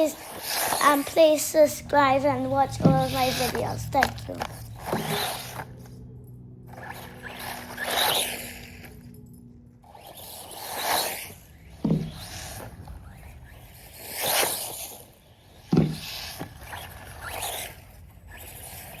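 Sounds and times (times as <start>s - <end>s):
rc buggy running: 0.0s - 19.0s.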